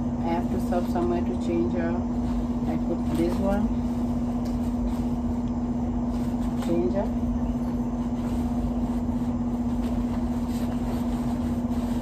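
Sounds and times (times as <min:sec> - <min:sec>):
appliance humming: 0:00.0 - 0:12.0
rustles in a fabric bag: 0:00.2 - 0:12.0.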